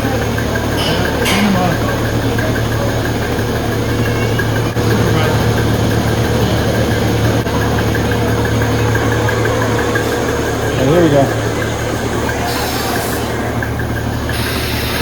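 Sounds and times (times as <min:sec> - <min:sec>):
pulsators ticking: 0:00.0 - 0:15.0
vacuum system hum: 0:00.0 - 0:15.0.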